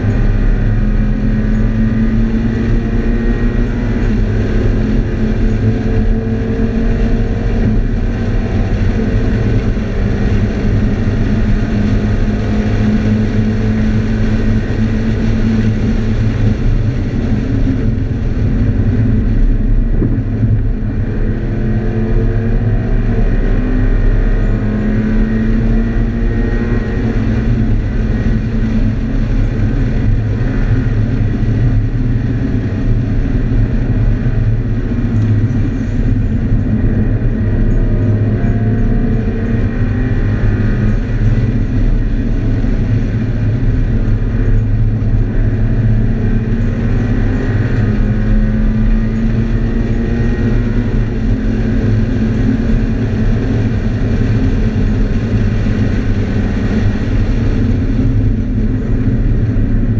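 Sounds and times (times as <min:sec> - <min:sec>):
car engine accelerating: 0:00.0 - 0:59.9
road and wind noise: 0:00.0 - 0:59.9.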